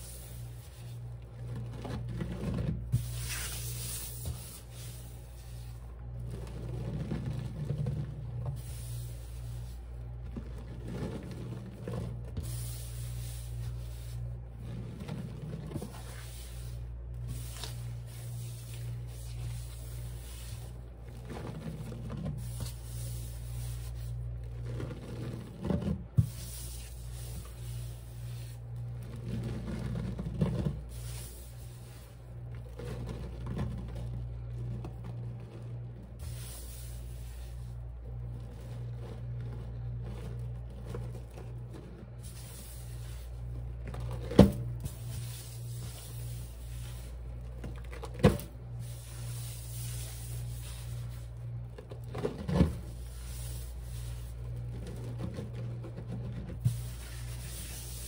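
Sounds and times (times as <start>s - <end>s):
sponge scraping through powder: 0.0s - 58.0s
steady low hum: 0.0s - 58.0s.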